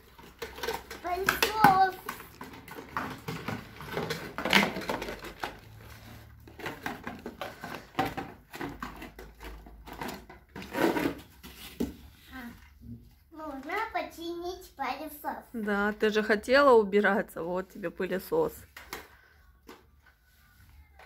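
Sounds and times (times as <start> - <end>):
cardboard and wrapping rustling: 0.0 - 14.7, 17.8 - 21.0.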